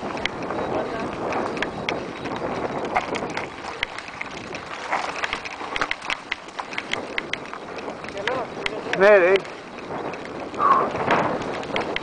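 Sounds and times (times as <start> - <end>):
wind noise on microphone: 0.0 - 12.0
bike tyres clattering over stones: 1.0 - 12.0.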